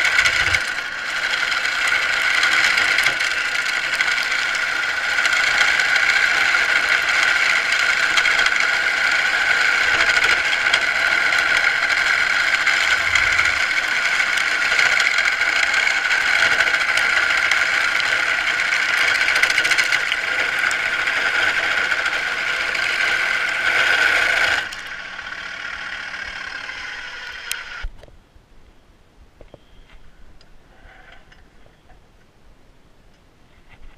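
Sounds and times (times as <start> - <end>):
lathe running: 0.0 - 27.9
tool scraping spinning wood: 0.0 - 27.9.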